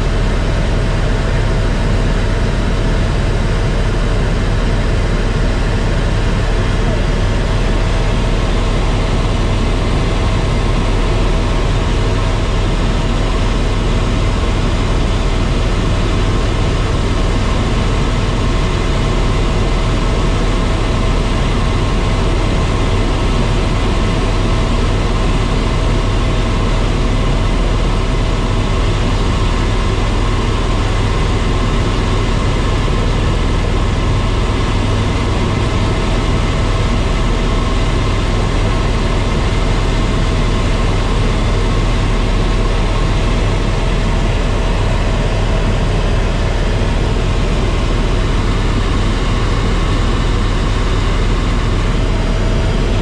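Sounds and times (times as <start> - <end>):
helicopter turbine and rotors drone: 0.0 - 53.0.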